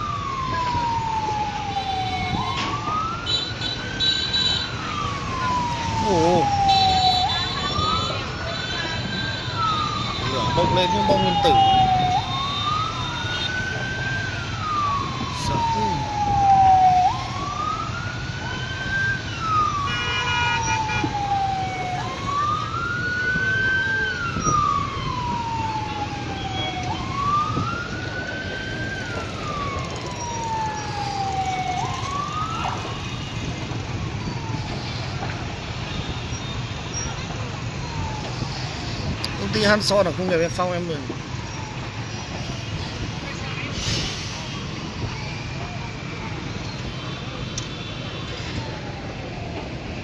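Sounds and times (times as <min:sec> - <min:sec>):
emergency siren wailing: 0:00.0 - 0:50.0.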